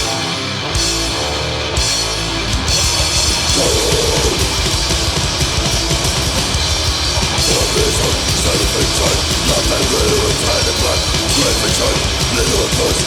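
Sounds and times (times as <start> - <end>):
heavily distorted guitars: 0.0 - 13.0
fast drumming: 1.8 - 13.0.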